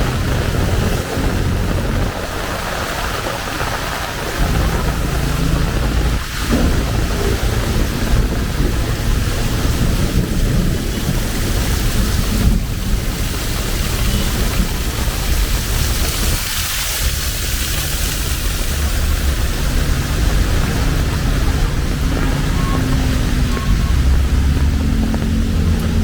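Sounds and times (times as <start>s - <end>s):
heavy rain pouring: 0.0s - 26.0s
low rumble: 0.0s - 26.0s.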